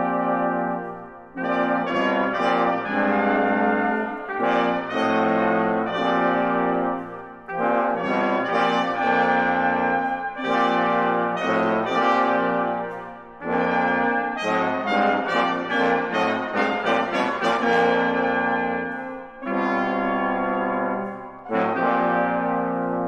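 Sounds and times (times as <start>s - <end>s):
brass quintet playing chords: 0.0s - 23.0s.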